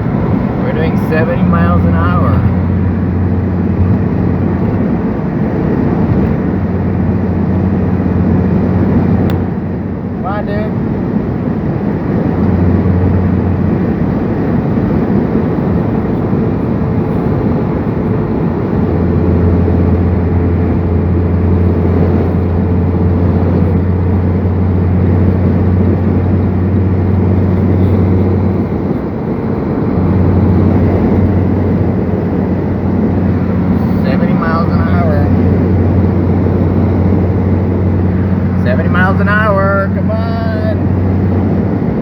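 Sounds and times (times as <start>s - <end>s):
car road and wind noise: 0.0s - 42.0s
low droning hum: 0.0s - 42.0s.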